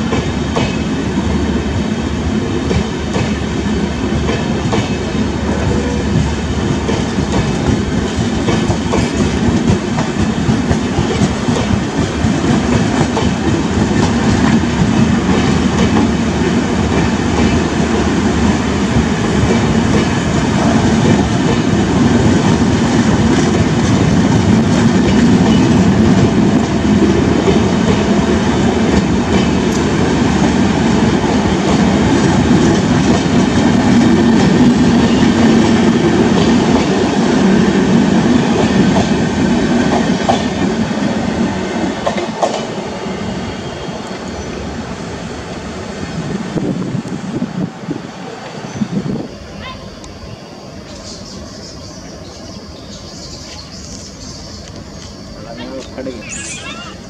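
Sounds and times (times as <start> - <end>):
train wheels running over rails: 0.0 - 56.3.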